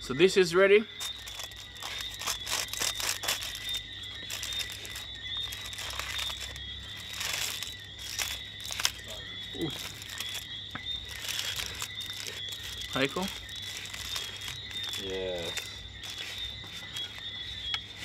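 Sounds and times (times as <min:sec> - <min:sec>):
foil pouch crinkling: 0:00.9 - 0:18.0.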